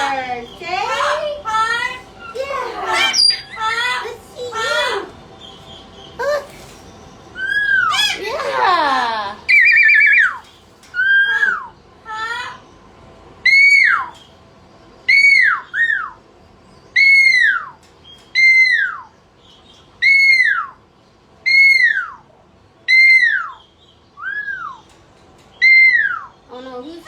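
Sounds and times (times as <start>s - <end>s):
parrot calling: 0.0s - 12.7s, 13.4s - 14.3s, 15.1s - 16.2s, 16.9s - 19.2s, 20.0s - 24.9s, 25.5s - 27.0s.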